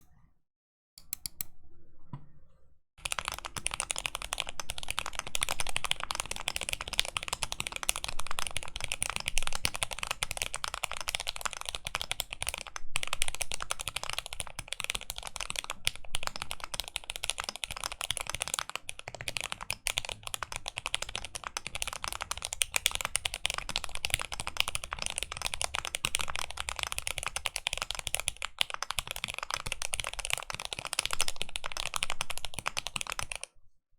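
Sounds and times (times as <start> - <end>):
typing on mechanical keyboard: 3.0 - 33.5.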